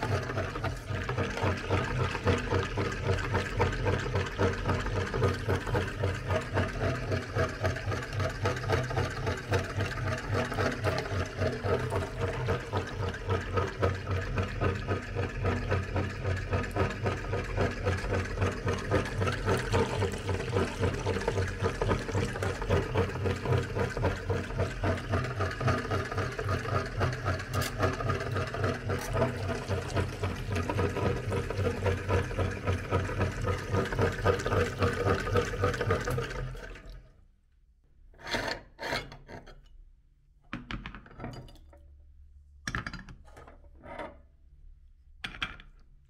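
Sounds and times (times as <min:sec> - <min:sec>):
meat grinder running: 0:00.0 - 0:37.0.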